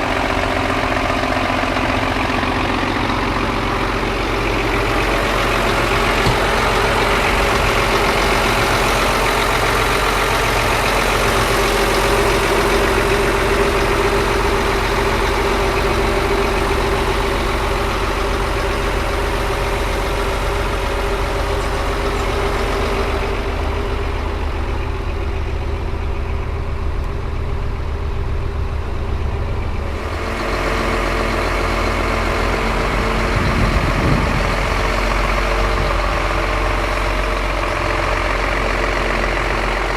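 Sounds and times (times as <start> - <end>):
steady whine: 0.0 - 37.7
diesel engine idling: 0.0 - 39.9.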